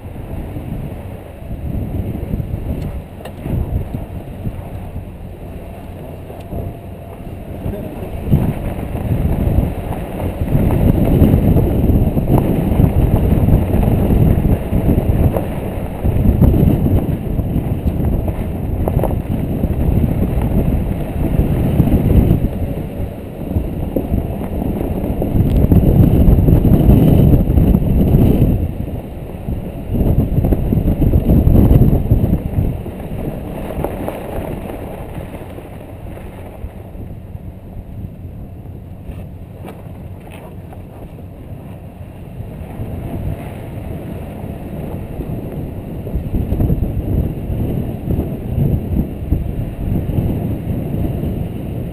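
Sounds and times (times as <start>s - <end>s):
vehicle driving on sand: 0.0s - 51.9s
wind buffeting microphone: 0.0s - 51.9s.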